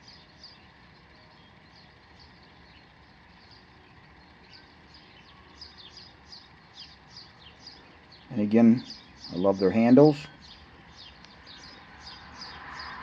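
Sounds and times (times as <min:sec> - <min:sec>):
low background hiss: 0:00.0 - 0:12.0
faint bird chirping: 0:00.0 - 0:13.0.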